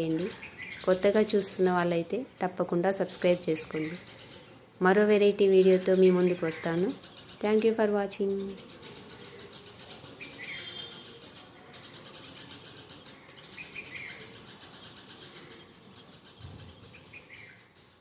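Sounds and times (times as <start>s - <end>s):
bird chirping: 0.0s - 18.0s
faint background noise: 0.0s - 18.0s.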